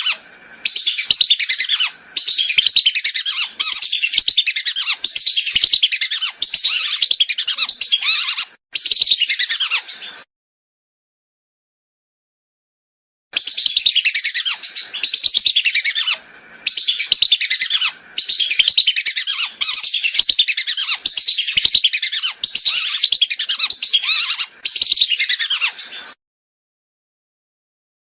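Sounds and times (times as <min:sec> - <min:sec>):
whistling ducks calling: 0:00.0 - 0:10.3, 0:13.4 - 0:26.2.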